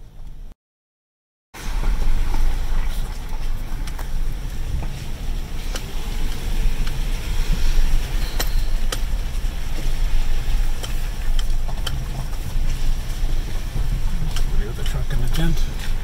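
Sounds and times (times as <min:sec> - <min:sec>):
engine and tyres rumbling: 0:00.0 - 0:00.5, 0:01.6 - 0:16.0.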